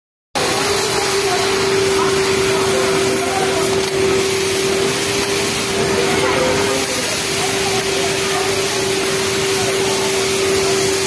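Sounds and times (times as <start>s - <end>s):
faint voices: 0.4s - 11.0s
industrial sewing machines running: 0.4s - 11.0s.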